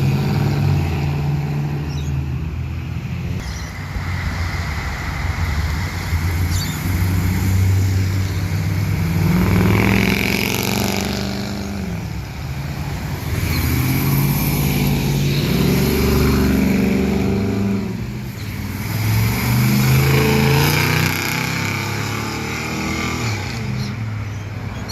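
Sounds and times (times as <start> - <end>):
car engines accelerating: 0.0 - 24.9.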